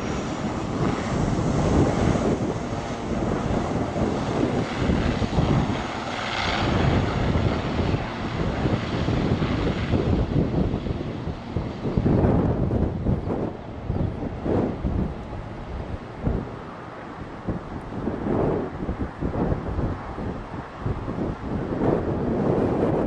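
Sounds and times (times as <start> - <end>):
aircraft engines at takeoff: 0.0 - 23.0.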